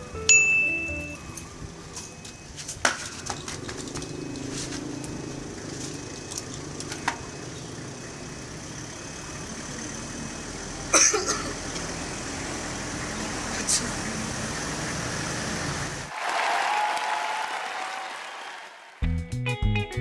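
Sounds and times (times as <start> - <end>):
road traffic hum: 0.0 - 16.1.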